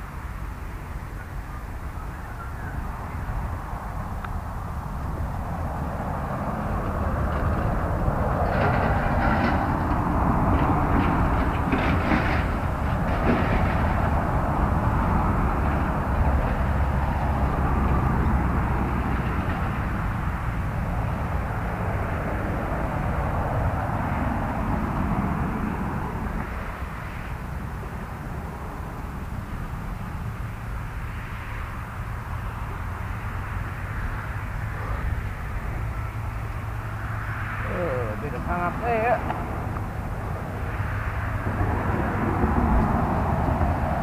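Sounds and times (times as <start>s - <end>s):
distant engine rumble: 0.0s - 44.0s.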